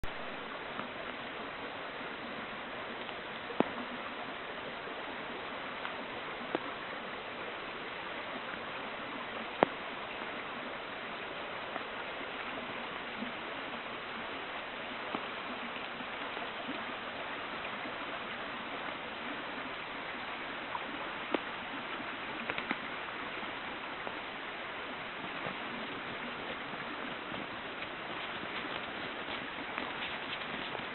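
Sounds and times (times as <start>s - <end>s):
river water flowing: 0.0s - 30.9s.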